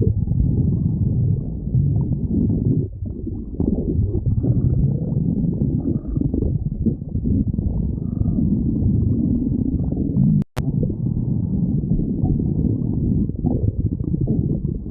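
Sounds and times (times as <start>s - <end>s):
stomach growling: 0.0s - 14.9s.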